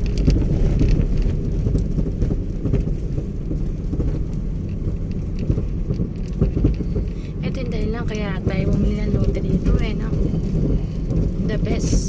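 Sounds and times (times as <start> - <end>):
faint rattles: 0.0 - 12.0
vehicle rumbling: 0.0 - 12.0
wind buffeting microphone: 0.0 - 12.0.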